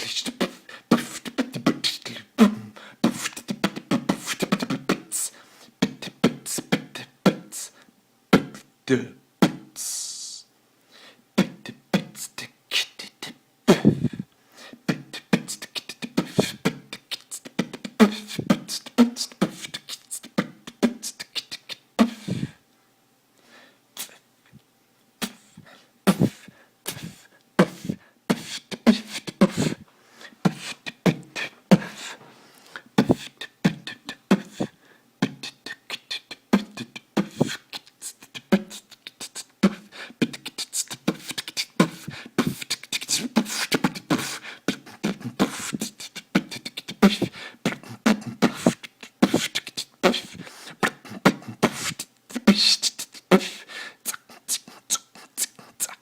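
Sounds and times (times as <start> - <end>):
beatboxing: 0.0 - 10.5, 11.4 - 22.6, 24.0 - 24.6, 25.2 - 56.0.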